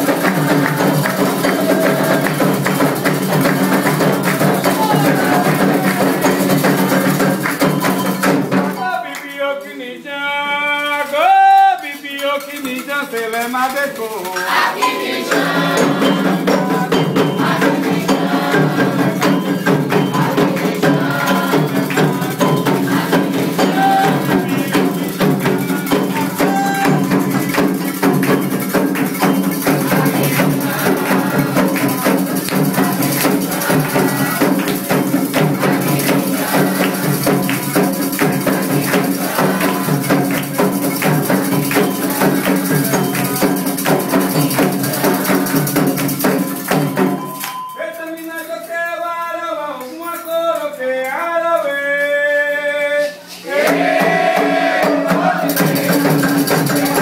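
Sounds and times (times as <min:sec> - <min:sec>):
ritual drums and percussion: 0:00.0 - 0:57.0.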